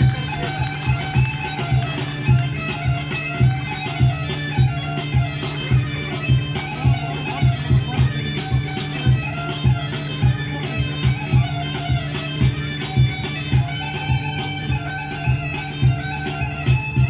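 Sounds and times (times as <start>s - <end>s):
bagpipe folk melody with drone: 0.0s - 17.0s.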